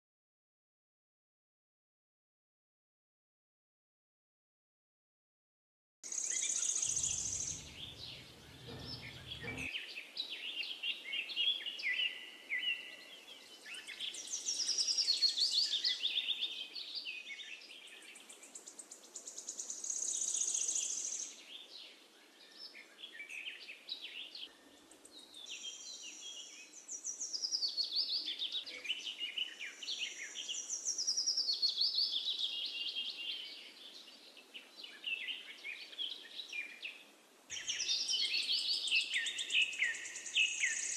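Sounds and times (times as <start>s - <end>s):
birds singing and chirping: 6.1s - 18.6s, 19.6s - 40.9s.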